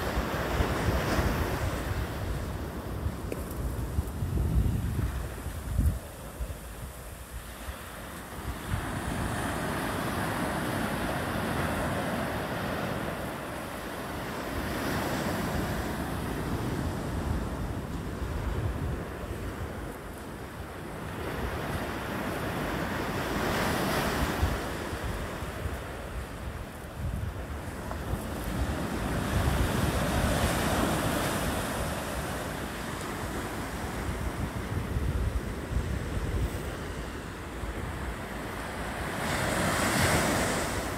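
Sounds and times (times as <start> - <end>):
ocean waves breaking on beach: 0.0 - 40.9
wind buffeting microphone: 0.0 - 40.9.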